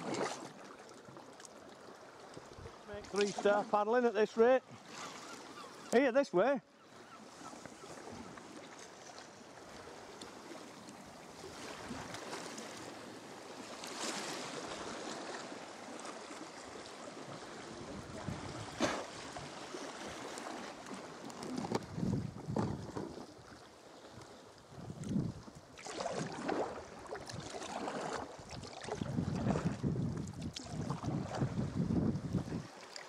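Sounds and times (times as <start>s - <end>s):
paddle splashing in water: 0.0s - 3.8s, 7.3s - 33.0s
water slapping hull: 0.0s - 3.8s, 7.5s - 33.0s.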